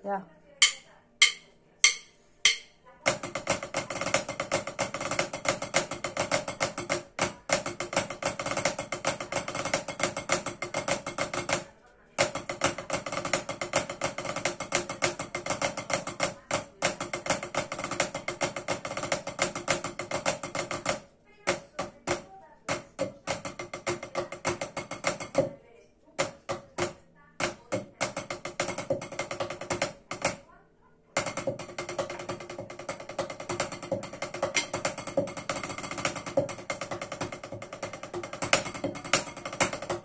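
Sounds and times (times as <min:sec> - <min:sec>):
drumsticks on a practice pad: 0:00.6 - 0:30.5, 0:31.2 - 0:40.0.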